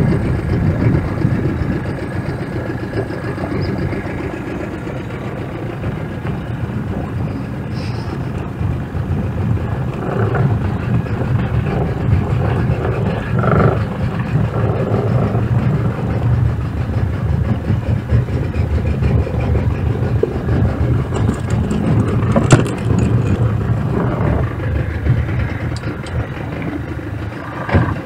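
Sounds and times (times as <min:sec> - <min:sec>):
boat engine low rumble: 0:00.0 - 0:28.0.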